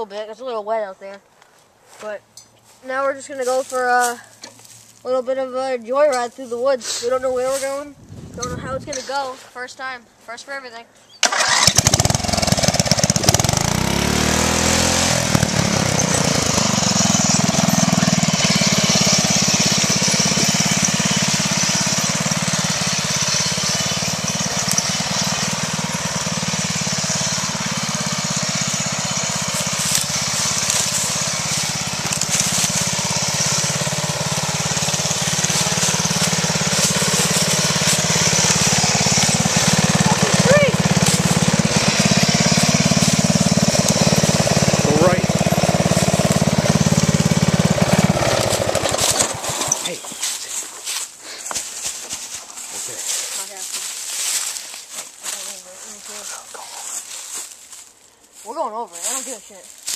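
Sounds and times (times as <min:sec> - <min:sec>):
riding lawn mower engine: 0:02.0 - 0:09.4, 0:11.2 - 0:59.9.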